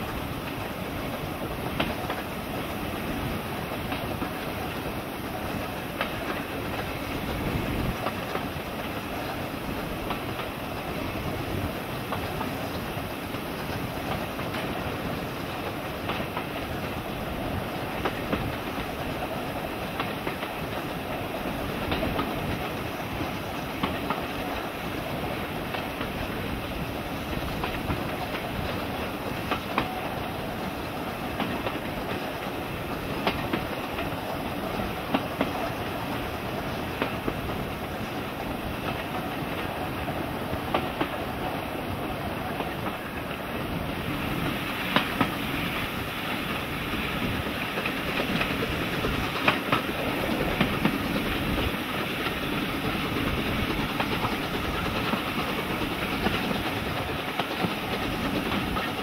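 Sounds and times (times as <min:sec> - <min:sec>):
train carriages rumbling: 0:00.0 - 0:59.0
wheels clicking over rail joints: 0:00.0 - 0:59.0.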